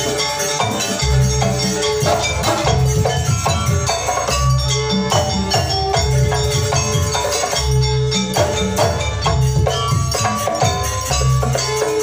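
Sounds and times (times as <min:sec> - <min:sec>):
keyboard melody: 0:00.0 - 0:12.0
quick light percussion: 0:00.0 - 0:12.0
deep drum beat: 0:00.6 - 0:11.8.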